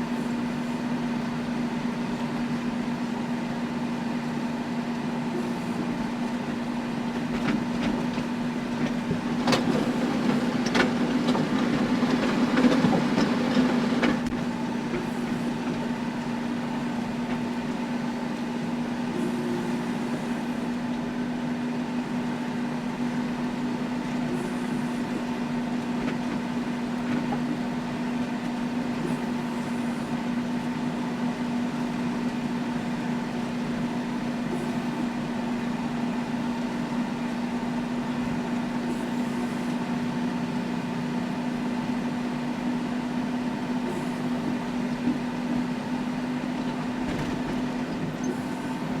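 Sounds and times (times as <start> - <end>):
tractor running under load: 0.0 - 49.0.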